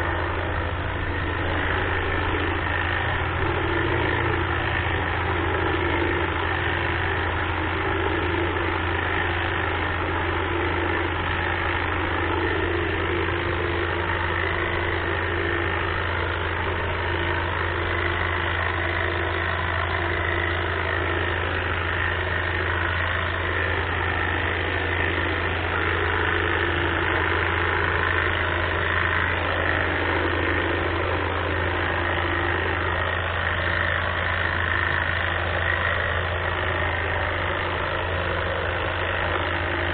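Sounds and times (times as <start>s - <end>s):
hedge trimmer running: 0.0s - 39.9s.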